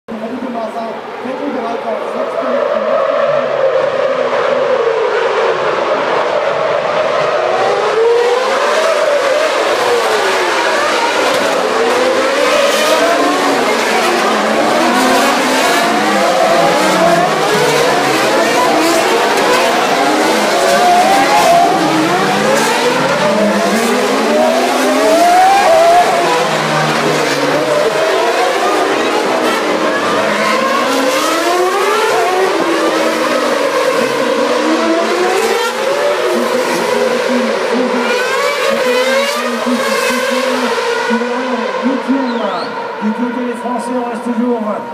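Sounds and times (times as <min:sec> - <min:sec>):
racing car engines braking and accelerating: 0:00.1 - 0:44.9.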